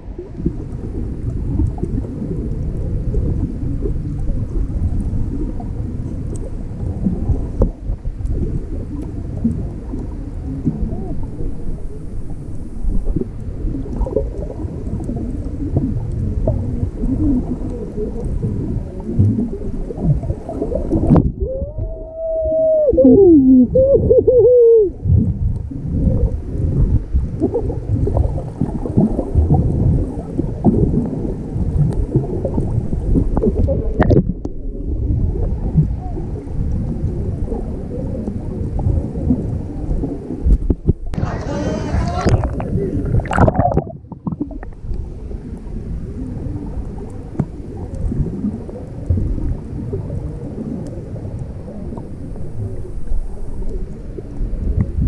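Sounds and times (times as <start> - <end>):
low rumbling: 0.0 - 55.0
underwater bubbling water: 0.0 - 55.0.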